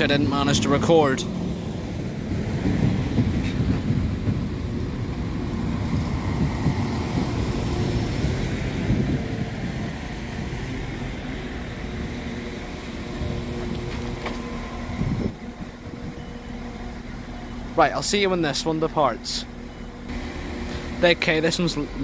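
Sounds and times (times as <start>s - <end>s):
train engine hum: 0.0s - 22.0s
train wheels rumbling: 0.0s - 22.0s.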